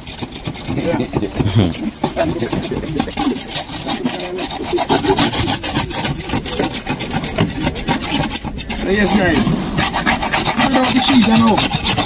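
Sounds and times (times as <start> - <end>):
boat hull scraping by hand: 0.0 - 12.0.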